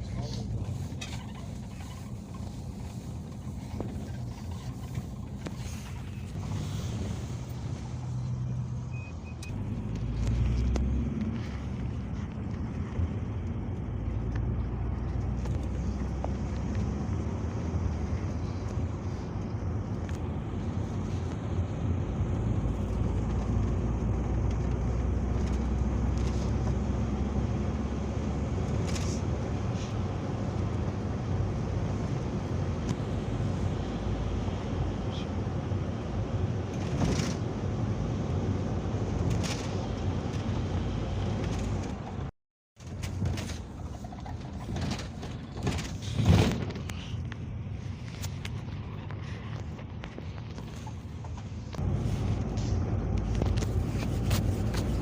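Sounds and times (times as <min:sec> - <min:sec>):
engine and road rumble: 0:00.0 - 0:55.0.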